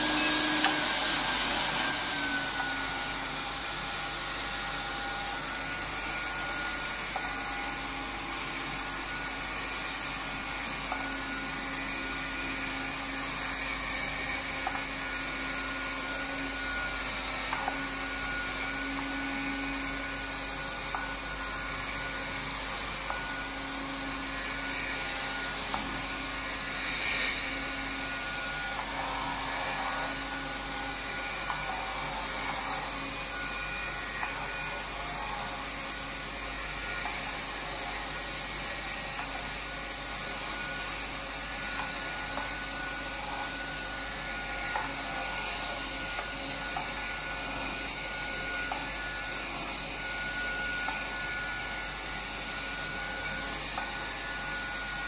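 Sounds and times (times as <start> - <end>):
suction fan whining: 0.0 - 55.0.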